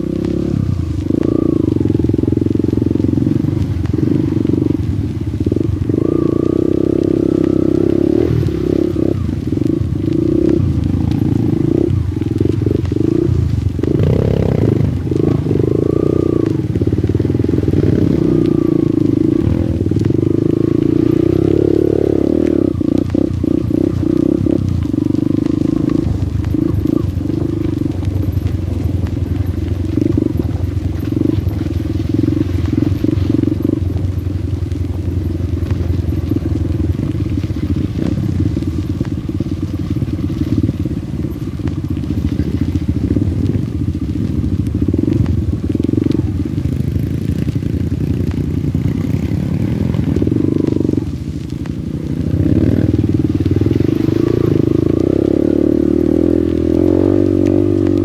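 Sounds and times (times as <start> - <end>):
trail bike engine revving: 0.0 - 58.0.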